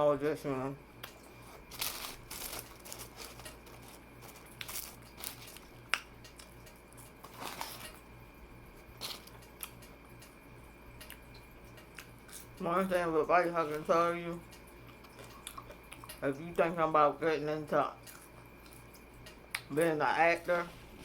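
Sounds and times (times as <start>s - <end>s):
chewing and handling food: 1.0s - 16.8s, 17.8s - 21.0s.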